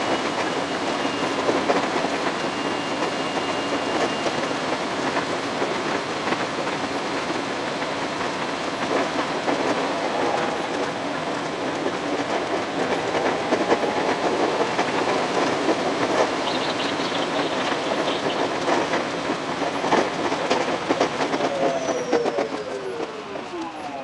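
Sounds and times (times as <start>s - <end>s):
electric train rumbling on rails: 0.0s - 24.0s.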